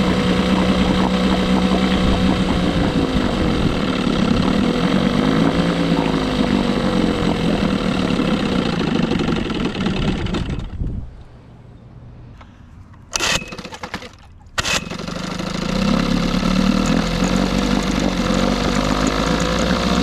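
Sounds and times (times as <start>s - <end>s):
outboard motor running: 0.0s - 10.8s, 13.2s - 20.0s.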